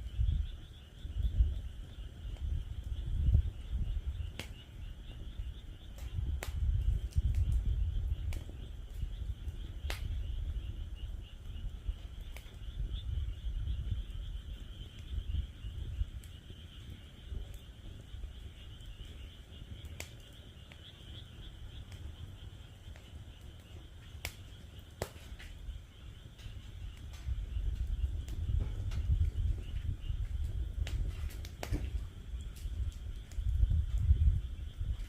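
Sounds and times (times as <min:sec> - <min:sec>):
frogs trilling chorus: 0:00.0 - 0:35.0
wood fire crackling and popping: 0:00.0 - 0:35.0.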